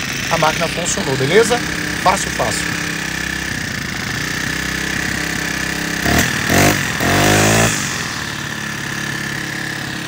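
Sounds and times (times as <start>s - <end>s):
brushcutter engine running: 0.0s - 10.0s.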